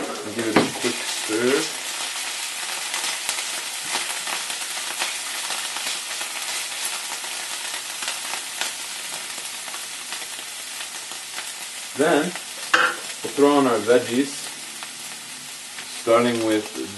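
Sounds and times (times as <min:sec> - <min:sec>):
food sizzling in a frying pan: 0:00.0 - 0:16.9.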